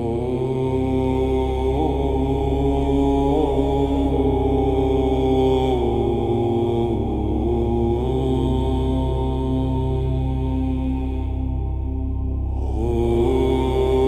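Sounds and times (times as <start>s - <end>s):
deep chanting voice: 0.0s - 14.0s
low drone: 0.0s - 14.0s.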